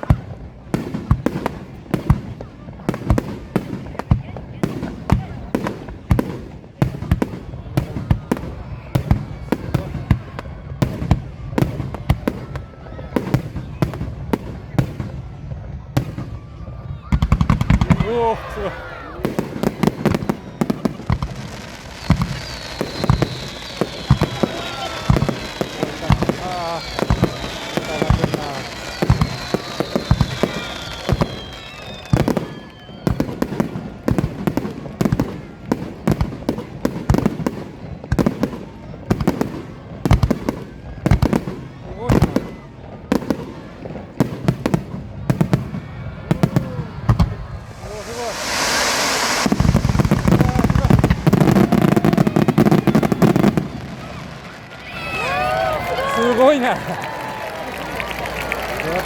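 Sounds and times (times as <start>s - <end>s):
fireworks exploding with bangs: 0.0s - 59.0s.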